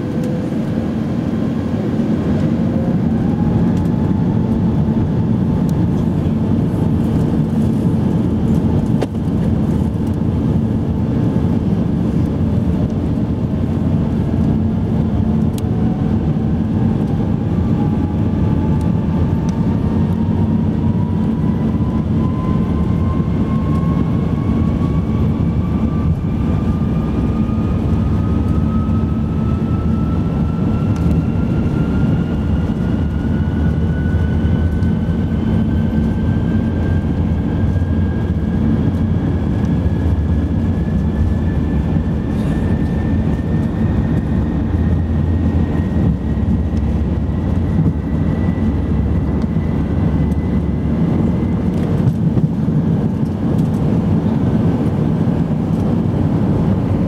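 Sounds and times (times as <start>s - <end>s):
aircraft cabin rumble: 0.0s - 57.0s
jet engine whine rising: 0.0s - 57.0s.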